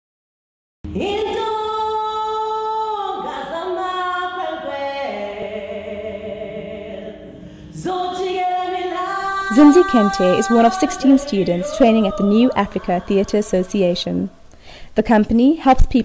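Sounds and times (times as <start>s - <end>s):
woman singing unaccompanied: 0.9s - 16.0s.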